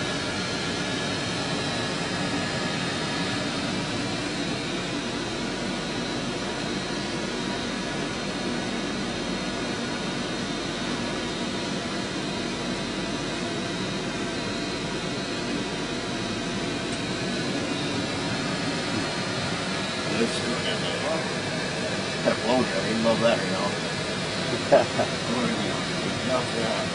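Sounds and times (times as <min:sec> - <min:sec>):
heater blower rushing: 0:00.0 - 0:26.9.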